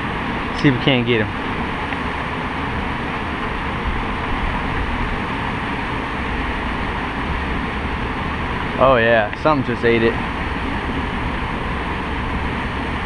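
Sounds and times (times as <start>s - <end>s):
outdoor rumbling hiss: 0.0s - 13.0s.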